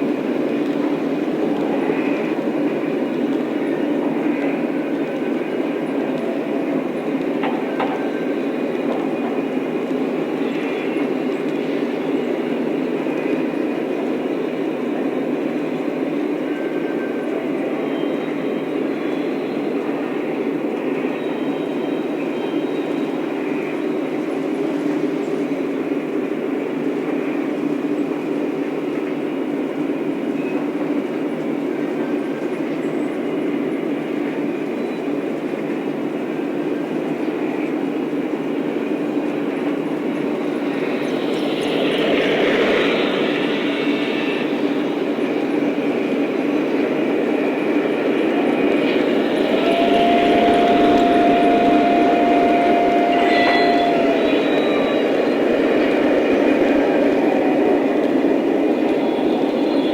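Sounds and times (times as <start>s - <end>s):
model train running on track: 0.0s - 59.9s.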